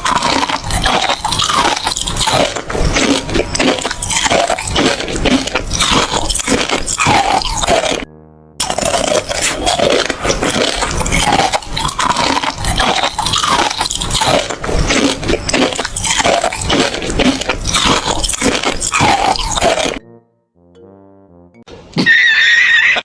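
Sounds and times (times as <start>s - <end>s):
crunching and chewing food: 0.0s - 20.0s.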